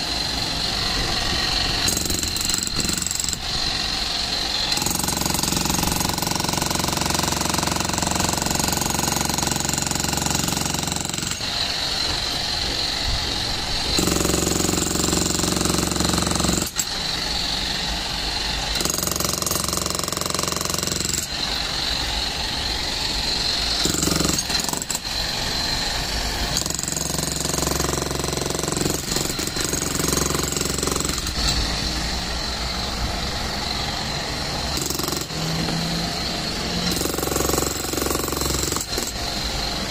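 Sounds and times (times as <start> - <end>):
demolition hammer chiselling concrete: 0.0 - 32.6, 33.5 - 39.9.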